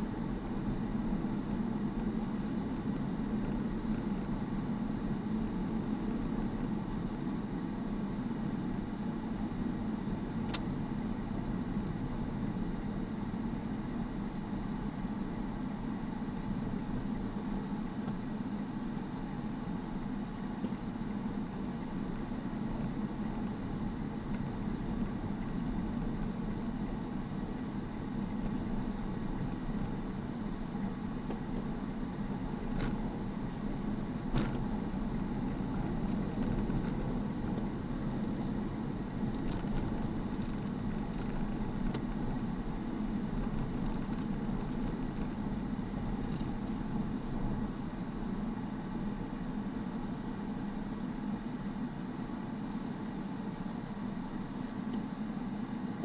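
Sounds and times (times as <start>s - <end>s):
car engine and tyres droning: 0.0s - 56.0s.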